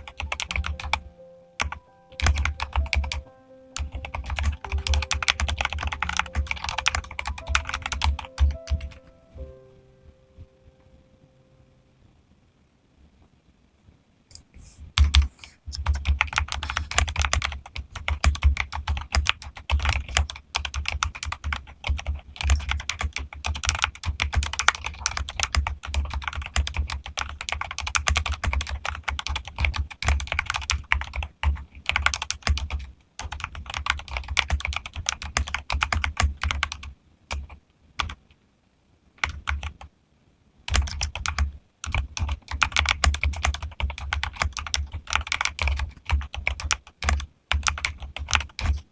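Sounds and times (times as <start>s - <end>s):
mechanical keyboard typing: 0.0s - 3.2s, 3.8s - 9.0s, 15.0s - 38.2s, 39.2s - 39.9s, 40.7s - 48.9s.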